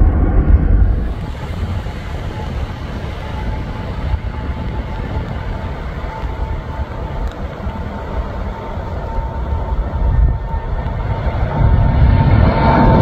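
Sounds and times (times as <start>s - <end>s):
faint steady whine: 0.0s - 11.8s
jet engine rumble: 0.0s - 13.0s.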